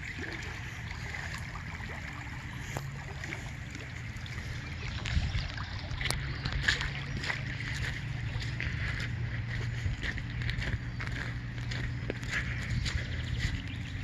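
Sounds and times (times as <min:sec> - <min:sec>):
floodwater rushing through creek: 0:00.0 - 0:14.0
low rumble on microphone: 0:00.0 - 0:14.0.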